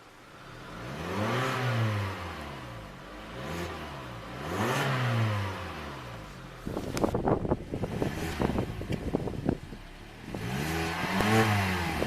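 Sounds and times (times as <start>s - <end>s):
car engine revving: 0.3s - 12.0s.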